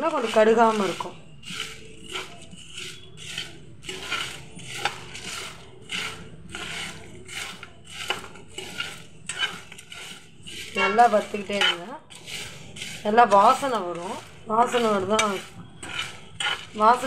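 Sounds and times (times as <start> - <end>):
spoon stirring dry spices in pan: 0.0 - 17.0.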